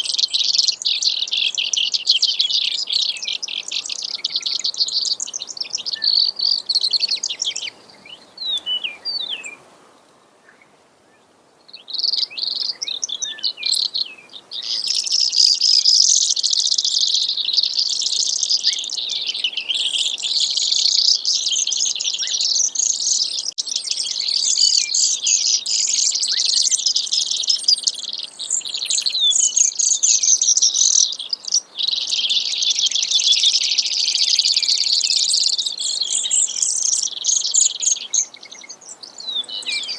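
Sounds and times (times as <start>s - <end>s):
sparrow singing trills: 0.0s - 9.6s, 10.5s - 39.9s.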